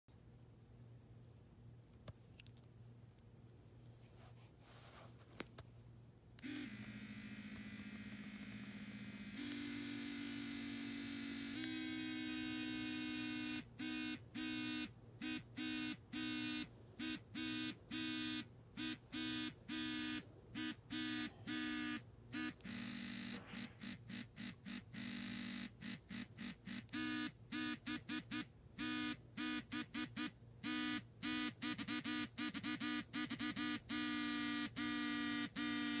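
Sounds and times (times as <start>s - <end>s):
vibration motors buzzing: 6.4s - 36.0s.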